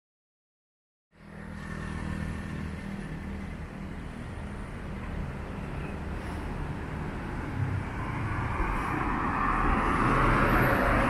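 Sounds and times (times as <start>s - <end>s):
road traffic: 1.1s - 11.0s.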